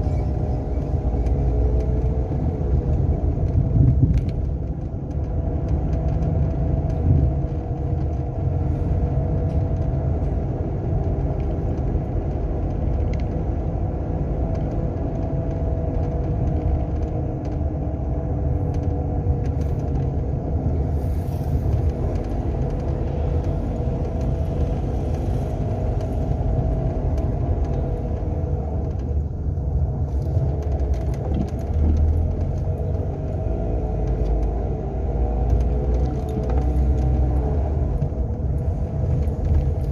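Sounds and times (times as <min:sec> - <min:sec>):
car engine driving: 0:00.0 - 0:39.9
road rumble: 0:00.0 - 0:39.9.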